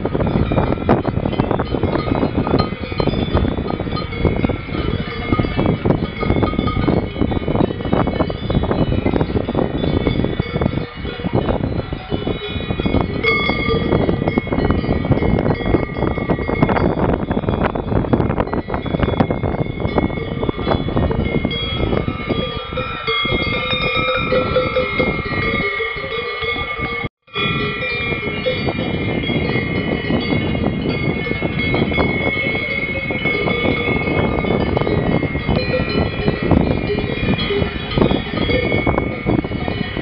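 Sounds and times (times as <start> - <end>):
cowbells clanking: 0.0 - 40.0.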